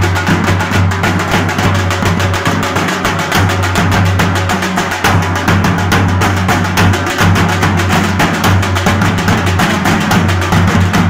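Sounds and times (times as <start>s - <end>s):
drum band playing fast rhythm: 0.0s - 11.0s.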